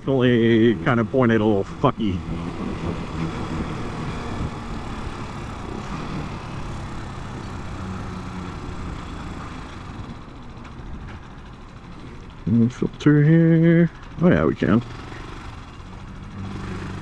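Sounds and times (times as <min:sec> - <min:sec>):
motorcycle engine drone: 0:00.0 - 0:17.0.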